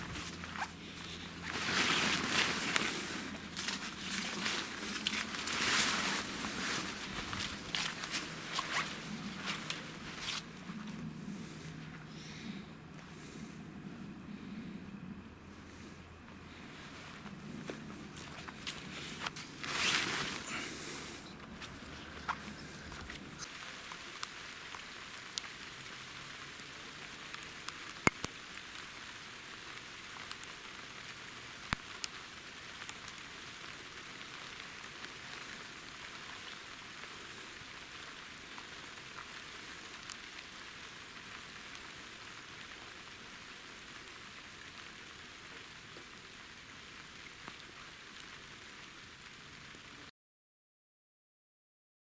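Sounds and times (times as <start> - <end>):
steady rain hiss: 0.0 - 50.1.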